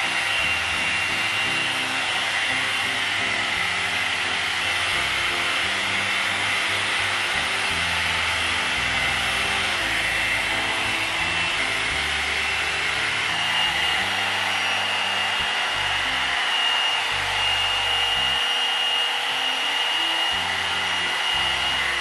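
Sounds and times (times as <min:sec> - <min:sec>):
hair dryer brush blowing air: 0:00.0 - 0:22.0.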